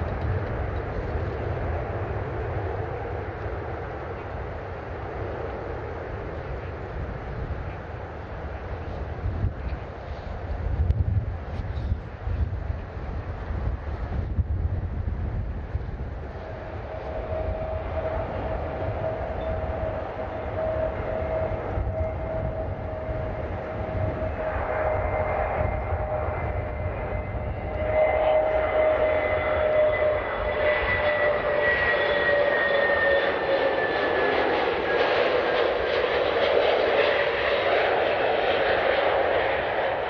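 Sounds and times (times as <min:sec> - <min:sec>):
airliner engines whining: 0:00.0 - 0:40.0
engine rumble: 0:00.0 - 0:40.0.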